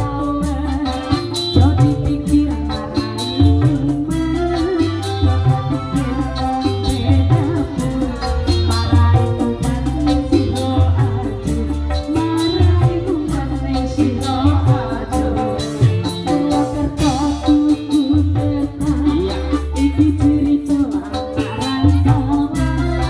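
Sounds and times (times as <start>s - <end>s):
drum kit: 0.0s - 23.0s
hand drums: 0.0s - 23.0s
keyboard: 0.0s - 23.0s
woman singing: 0.0s - 23.0s.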